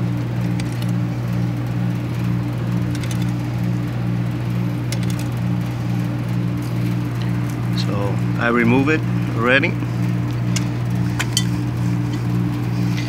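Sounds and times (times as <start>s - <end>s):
wavering mechanical hum: 0.0s - 13.0s.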